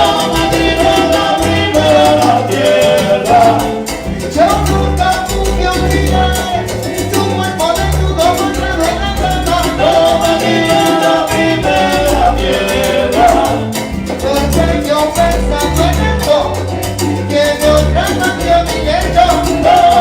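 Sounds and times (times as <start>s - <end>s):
salsa band playing: 0.0s - 20.0s.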